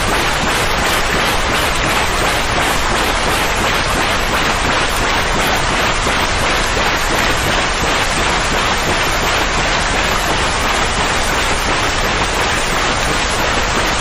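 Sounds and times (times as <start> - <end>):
white noise hiss: 0.0 - 14.0.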